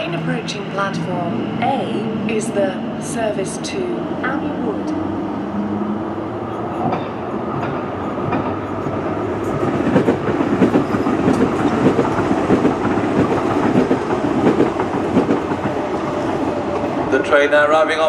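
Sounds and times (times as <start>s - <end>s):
electric train wheels on rails: 0.0s - 18.0s.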